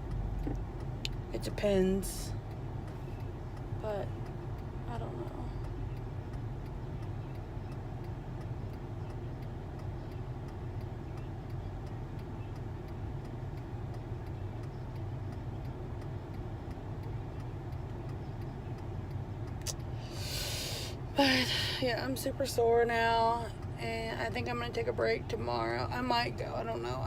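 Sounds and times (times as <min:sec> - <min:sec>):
car rumble inside cabin: 0:00.0 - 0:27.0
faint ticking: 0:00.0 - 0:27.0.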